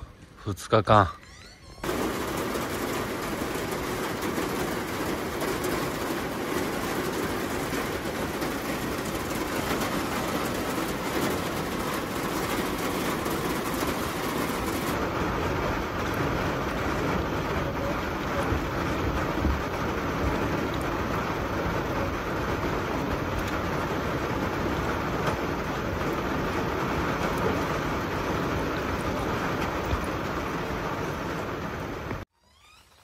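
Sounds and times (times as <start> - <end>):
rain pattering on a tent: 1.8 - 32.3.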